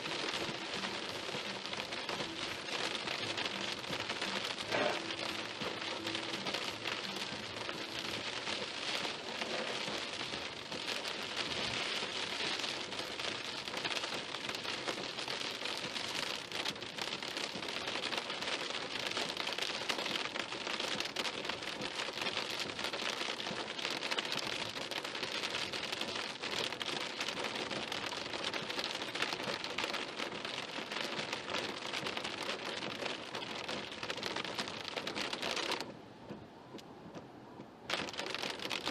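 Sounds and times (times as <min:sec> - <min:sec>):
rain pattering on a car: 0:00.0 - 0:38.9.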